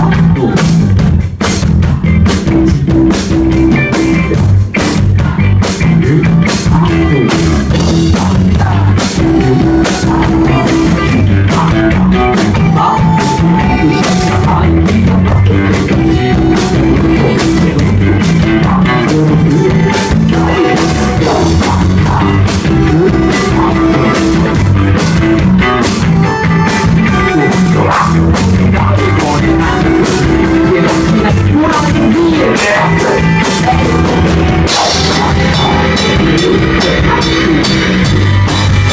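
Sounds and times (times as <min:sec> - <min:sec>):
bass guitar: 0:00.0 - 0:38.9
drum kit beat: 0:00.0 - 0:38.9
electric guitar: 0:00.0 - 0:38.9.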